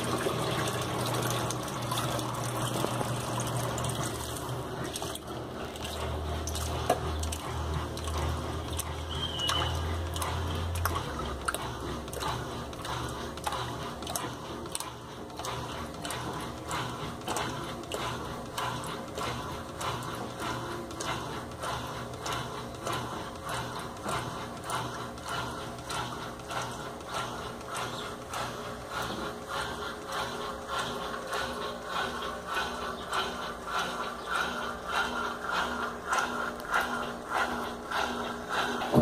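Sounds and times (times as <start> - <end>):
low motor hum: 0.0 - 39.0
washing machine water splashing: 0.0 - 39.0.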